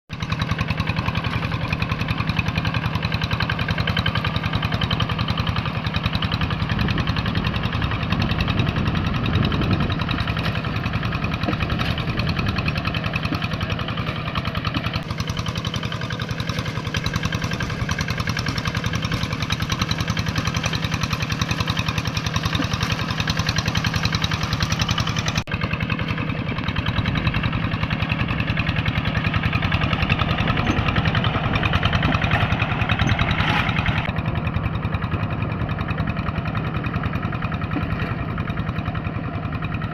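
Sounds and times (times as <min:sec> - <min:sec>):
tractor engine running under load: 0:00.1 - 0:39.9.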